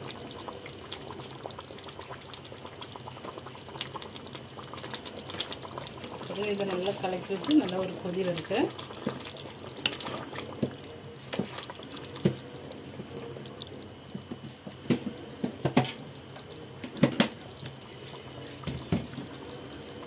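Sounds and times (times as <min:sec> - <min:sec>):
gravy bubbling and popping: 0:00.0 - 0:20.0.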